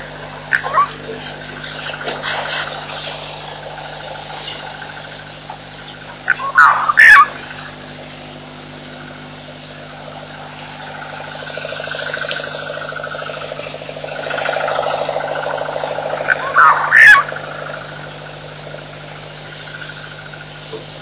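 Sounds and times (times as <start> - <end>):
bird trill: 0.0 - 21.0
birds chirping: 0.0 - 21.0
steady low hum: 0.0 - 21.0.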